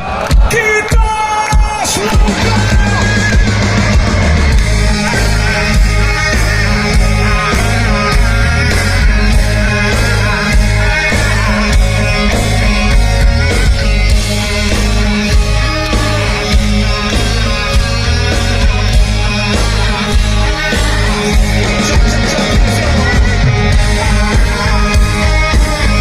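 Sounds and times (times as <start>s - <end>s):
heavy rock band playing: 0.0s - 26.0s
person singing: 4.5s - 26.0s.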